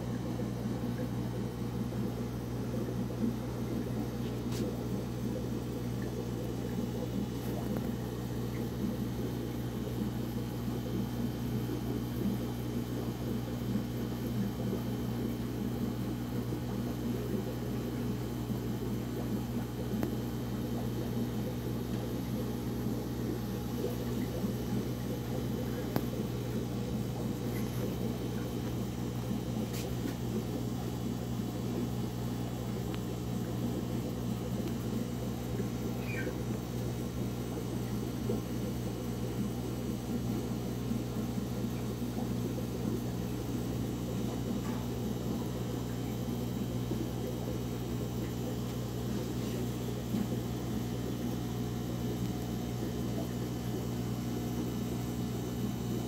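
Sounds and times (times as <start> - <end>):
bubbles fizzing: 0.0 - 55.8
air pump humming: 0.0 - 56.0.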